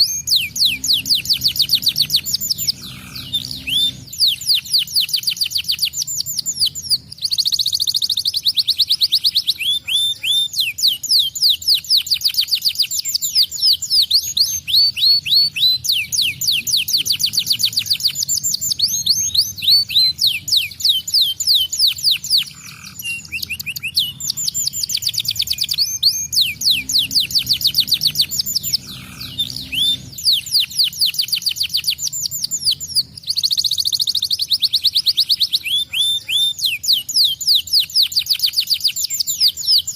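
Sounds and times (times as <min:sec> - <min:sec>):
canary singing trilled phrases: 0:00.0 - 0:39.9.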